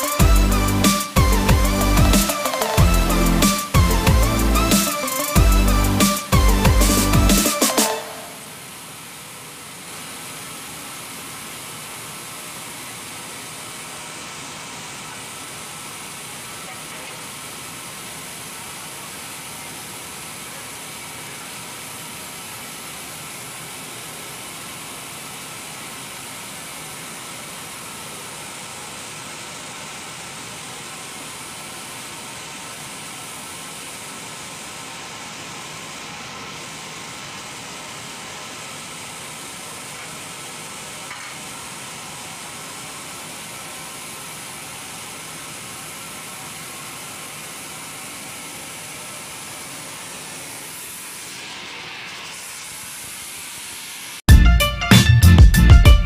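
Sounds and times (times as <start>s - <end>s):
machinery hissing: 0.0s - 54.2s.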